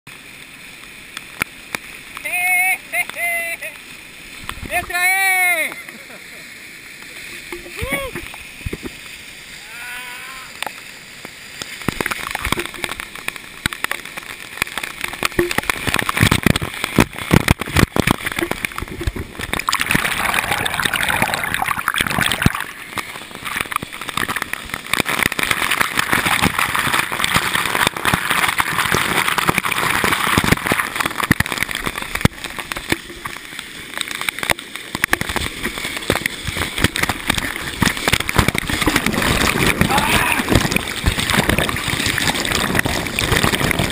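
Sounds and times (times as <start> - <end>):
waterfall splashing on camera: 0.1 - 43.9.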